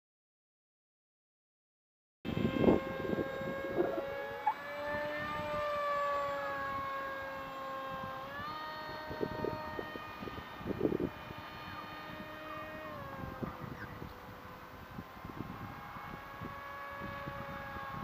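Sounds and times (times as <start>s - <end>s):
model plane motor whine: 2.3s - 18.0s
wind gusts on microphone: 2.3s - 18.0s.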